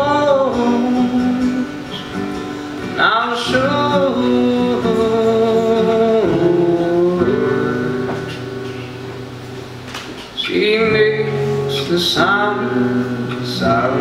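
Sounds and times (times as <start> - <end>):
man singing: 0.0 - 8.5, 10.3 - 14.0
acoustic guitars playing: 0.0 - 14.0.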